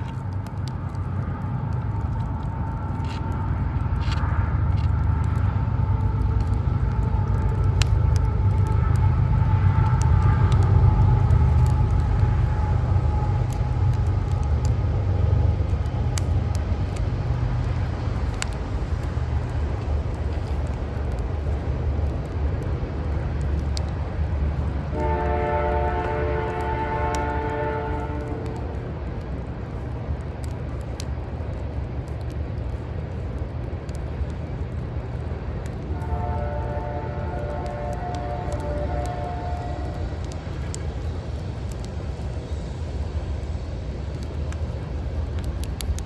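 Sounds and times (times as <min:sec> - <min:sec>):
low city rumble: 0:00.0 - 0:46.0
wood fire crackles: 0:00.0 - 0:46.0.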